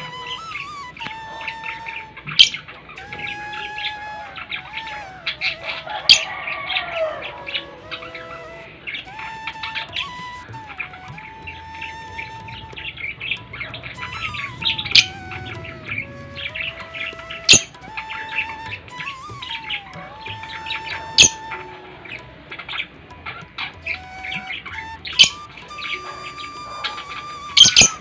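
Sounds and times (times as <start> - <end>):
long held gliding tone: 0.0 - 28.0.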